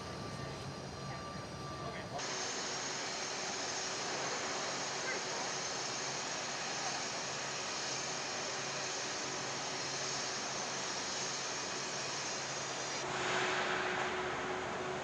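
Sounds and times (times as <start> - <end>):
factory machinery hiss and hum: 0.0 - 15.0.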